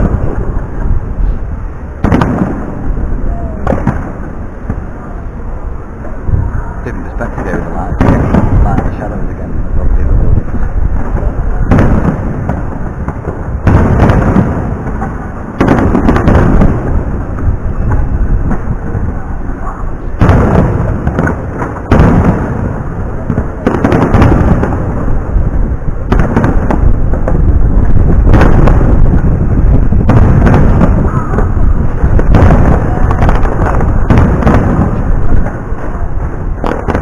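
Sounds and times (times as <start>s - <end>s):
firework shells booming: 2.0s - 5.0s, 7.2s - 9.4s, 10.0s - 37.0s.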